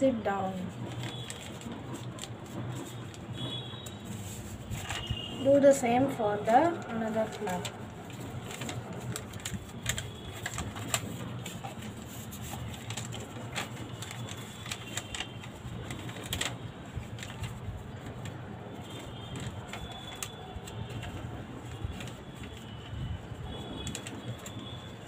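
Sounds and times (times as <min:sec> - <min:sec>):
paper crackling and creasing: 0:00.5 - 0:25.0.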